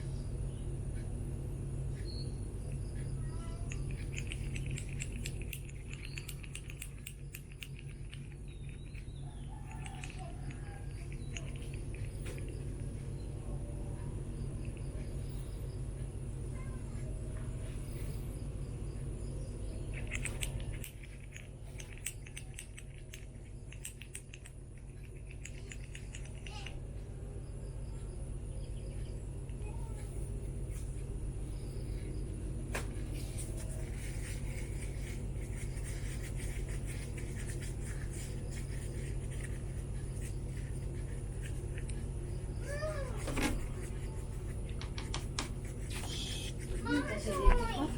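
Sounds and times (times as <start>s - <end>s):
low steady hum: 0.0s - 47.9s
small clicks and scratches: 1.8s - 13.3s, 14.3s - 27.1s, 27.8s - 47.9s.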